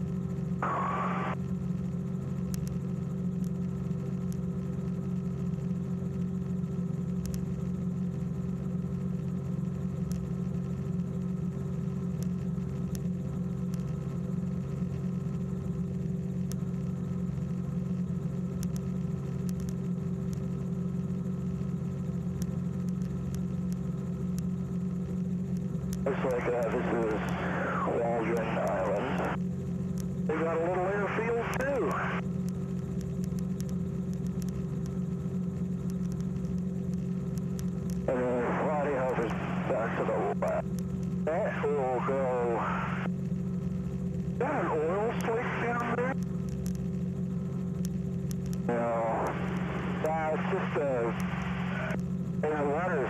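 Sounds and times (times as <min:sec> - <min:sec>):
propeller airplane engine droning: 0:00.0 - 0:53.0.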